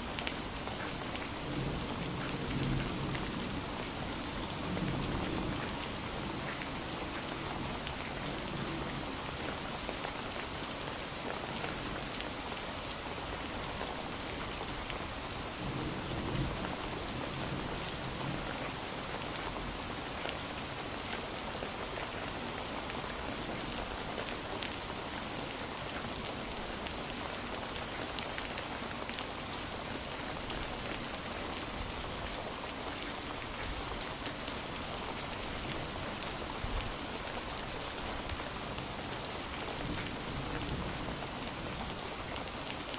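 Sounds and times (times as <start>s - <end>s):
raindrops ticking close by: 0.0s - 42.9s
steady rain falling: 0.0s - 42.9s.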